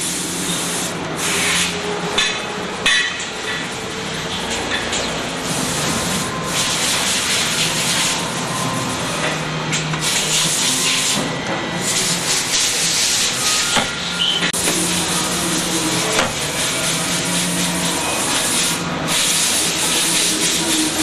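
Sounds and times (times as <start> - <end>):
spring-forming machine running: 0.0 - 21.0.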